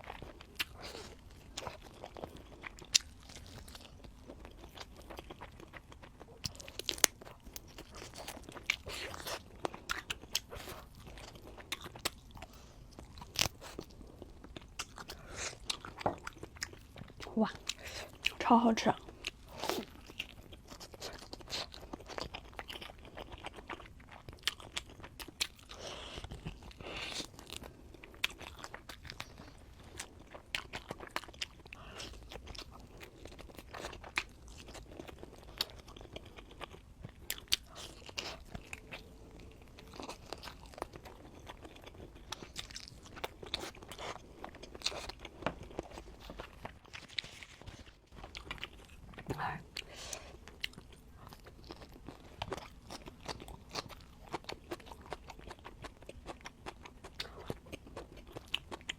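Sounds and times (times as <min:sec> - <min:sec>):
person chewing and crunching: 0:00.0 - 0:58.9.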